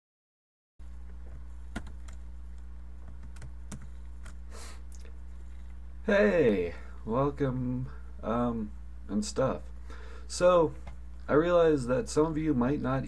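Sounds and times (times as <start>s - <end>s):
low electrical hum: 0.8s - 13.0s.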